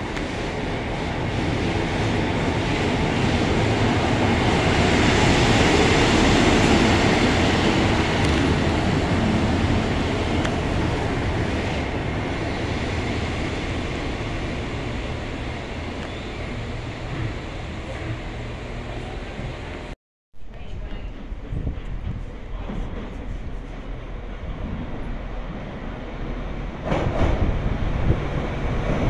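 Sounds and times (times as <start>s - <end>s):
diesel train passing: 0.0s - 20.0s, 21.1s - 29.0s.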